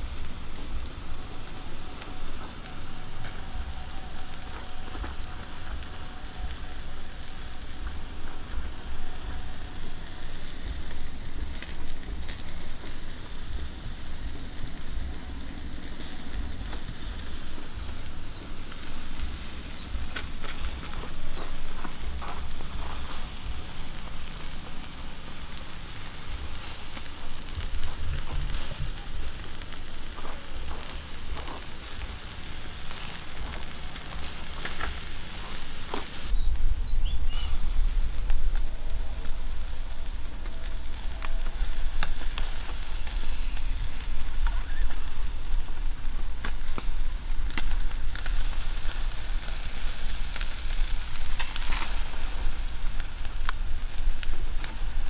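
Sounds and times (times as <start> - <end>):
fire crackling: 0.0 - 55.0
fish sizzling on a grill: 0.0 - 55.0.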